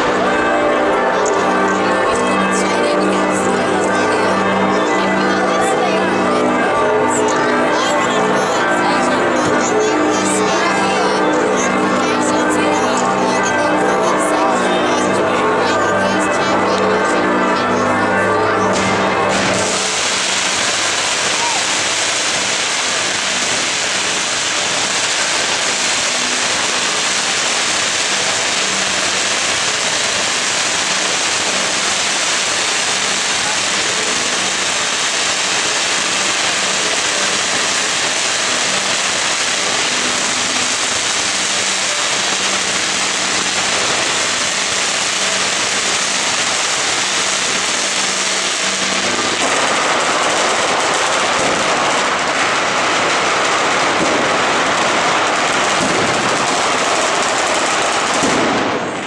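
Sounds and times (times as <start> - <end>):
firecrackers crackling: 0.0 - 59.0.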